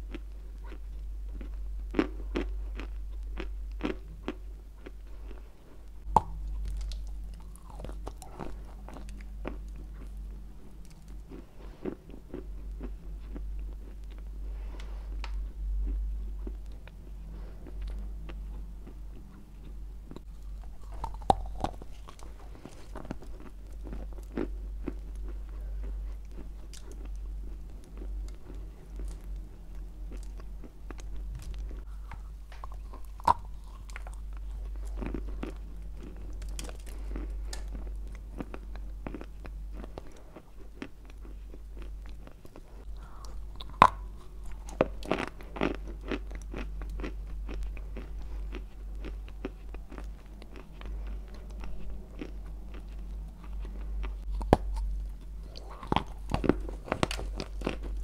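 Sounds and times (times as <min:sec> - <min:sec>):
crunchy chewing of clay: 0:00.0 - 0:58.0.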